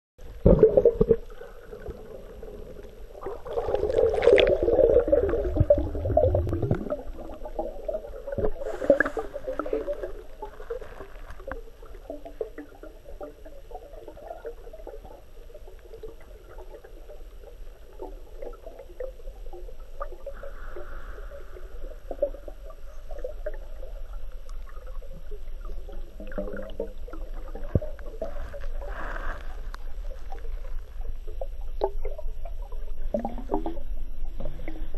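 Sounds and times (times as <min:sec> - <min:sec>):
muffled underwater water movement: 0:00.2 - 0:34.9.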